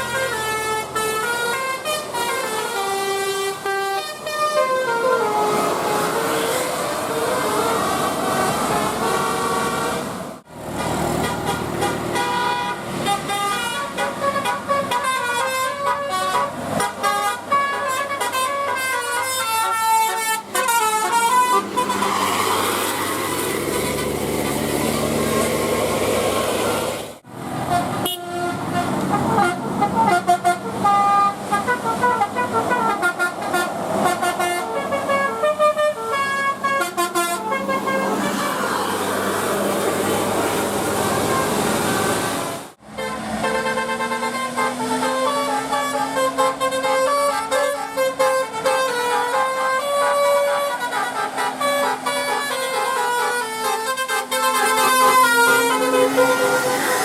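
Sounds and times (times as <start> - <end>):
multi-tone bus horns: 0.0 - 57.0.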